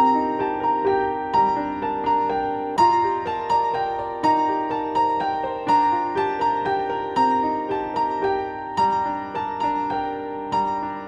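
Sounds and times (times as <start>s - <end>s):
keyboard instrument melody: 0.0s - 11.0s.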